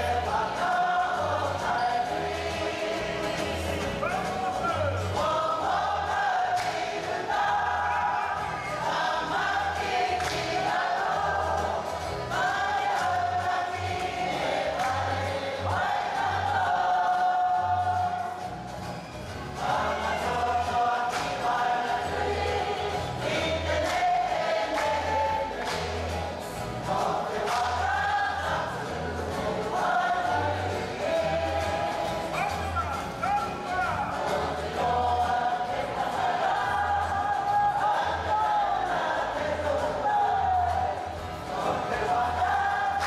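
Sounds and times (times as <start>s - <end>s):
choir singing: 0.0s - 18.6s, 19.4s - 43.0s.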